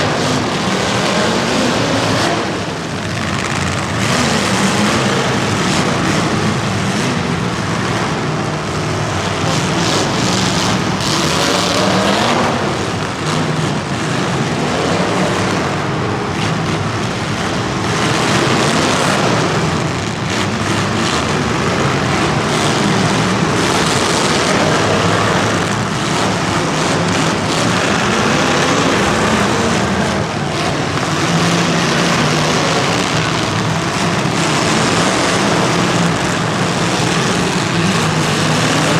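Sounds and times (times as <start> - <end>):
racing engines revving: 0.0 - 38.9.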